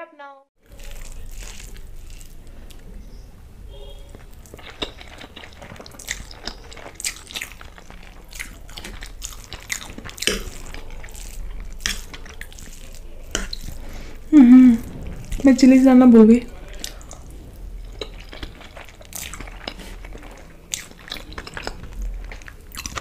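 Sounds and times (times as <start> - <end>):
close chewing with mouth clicks: 0.6 - 15.8, 16.4 - 23.0
steady low hum: 0.6 - 23.0.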